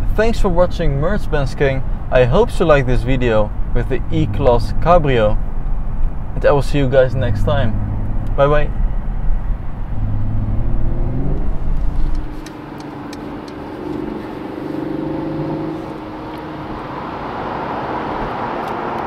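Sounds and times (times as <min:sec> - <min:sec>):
road noise: 0:00.0 - 0:19.0
car engine accelerating: 0:01.8 - 0:19.0.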